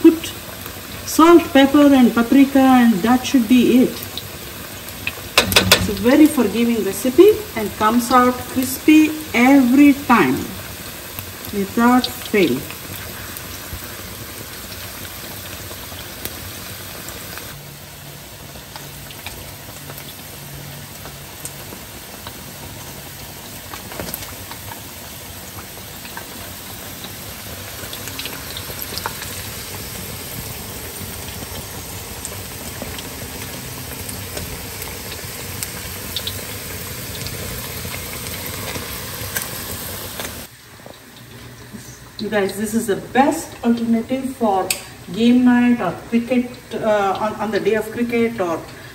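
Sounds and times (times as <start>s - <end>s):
chicken deep-frying in oil: 0.0s - 48.9s.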